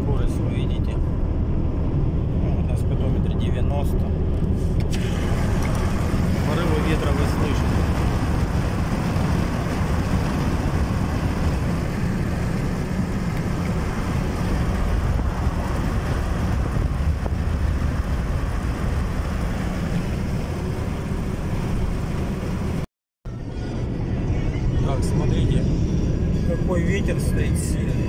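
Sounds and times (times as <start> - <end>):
gusty wind: 0.0 - 27.0
road noise inside car: 0.0 - 28.0.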